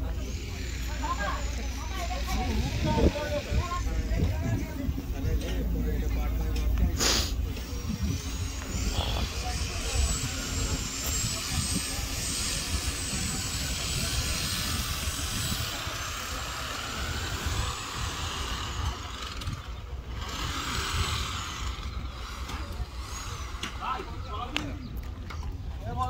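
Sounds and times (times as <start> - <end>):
distant people talking: 0.0 - 26.0
wind rumbling on microphone: 0.0 - 26.0.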